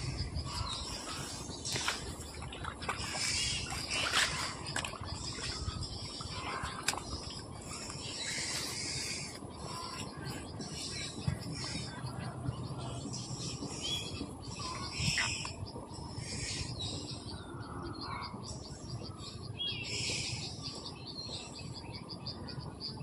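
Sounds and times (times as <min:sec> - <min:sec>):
small birds chirping: 0:00.0 - 0:23.0
steady background noise: 0:00.0 - 0:23.0.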